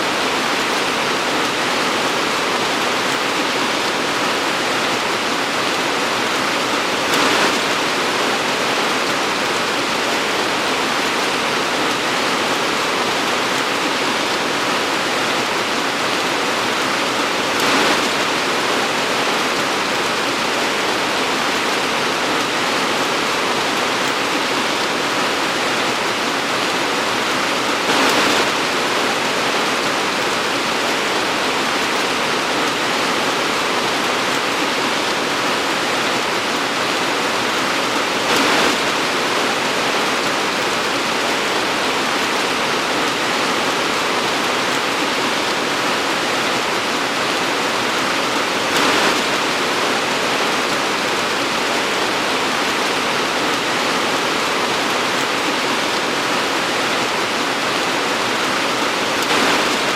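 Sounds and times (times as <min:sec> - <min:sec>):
torrential rain: 0:00.0 - 0:59.9.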